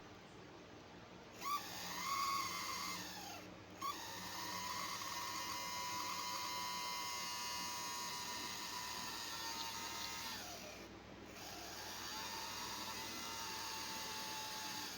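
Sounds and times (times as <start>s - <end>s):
small electric motor whining: 1.3s - 14.9s.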